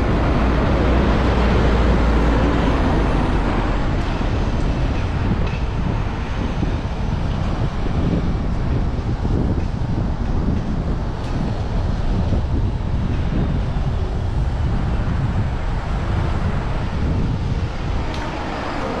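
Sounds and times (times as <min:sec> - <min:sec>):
road traffic: 0:00.0 - 0:19.0
wind buffeting microphone: 0:00.0 - 0:19.0.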